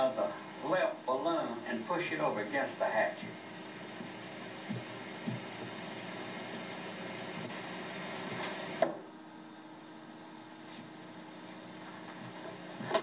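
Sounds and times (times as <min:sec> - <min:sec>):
steady tape hum and hiss: 0:00.0 - 0:13.0.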